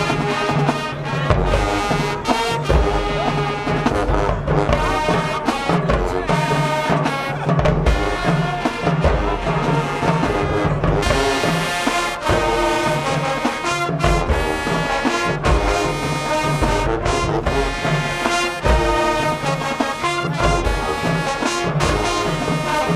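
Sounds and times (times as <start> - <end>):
low drums pounding: 0.0 - 22.9
marching band playing: 0.0 - 22.9.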